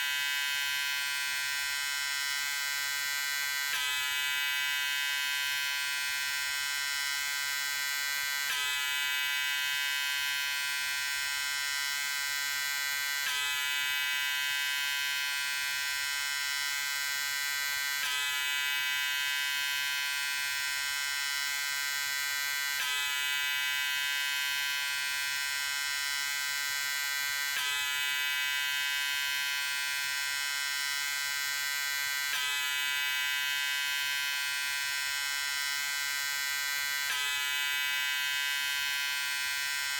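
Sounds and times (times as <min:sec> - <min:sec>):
electric shaver buzzing: 0:00.0 - 0:39.9.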